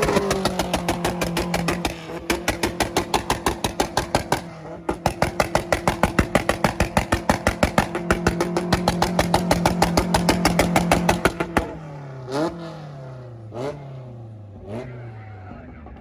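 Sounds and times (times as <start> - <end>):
car exhaust popping and banging: 0.0 - 13.9.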